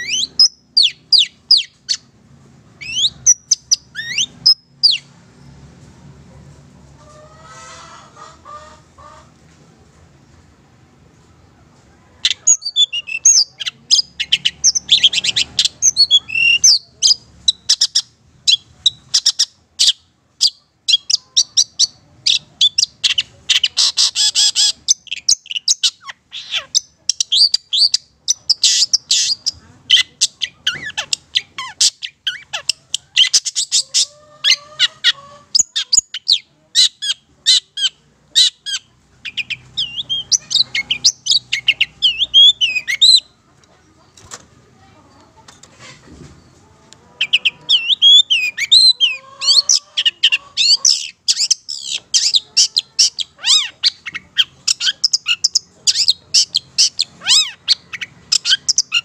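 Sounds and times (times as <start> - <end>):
bird singing chattering song: 0.0 - 2.1, 2.7 - 5.1, 12.2 - 43.4, 47.2 - 59.0.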